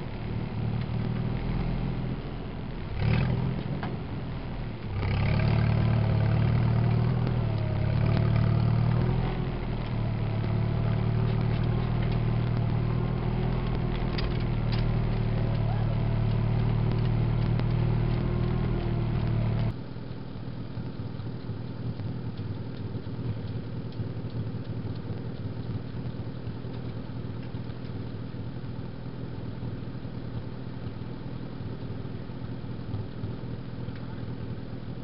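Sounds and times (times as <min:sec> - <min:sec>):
tractor engine running: 0:00.0 - 0:35.0
tractor idling: 0:00.0 - 0:35.0.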